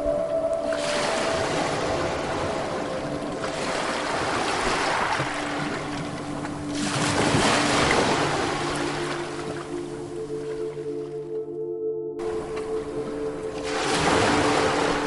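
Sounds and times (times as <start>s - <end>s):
ocean waves breaking on beach: 0.6s - 10.5s, 12.2s - 15.0s.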